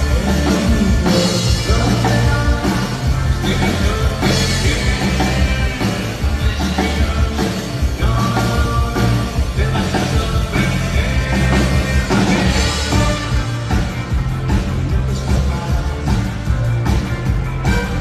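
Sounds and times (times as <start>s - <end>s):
bass line: 0.0s - 18.0s
drums: 0.0s - 18.0s
guitars: 0.0s - 18.0s
pop-rock band playing live: 0.0s - 18.0s.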